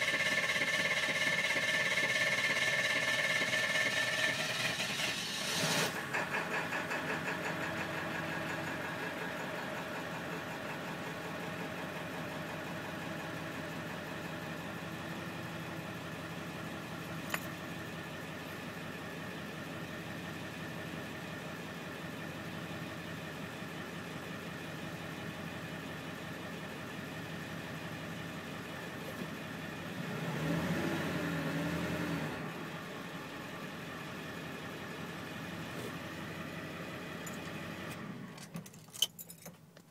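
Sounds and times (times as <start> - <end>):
diesel engine idling: 0.0 - 30.6, 31.4 - 38.4.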